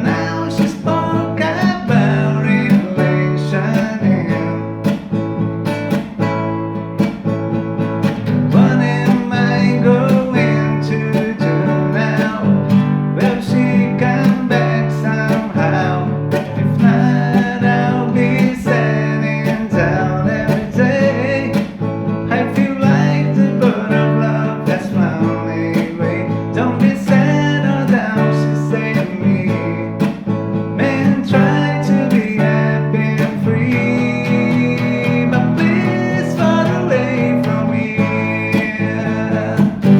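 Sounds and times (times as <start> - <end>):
bass line: 0.0 - 38.4
acoustic guitar music: 0.0 - 39.9.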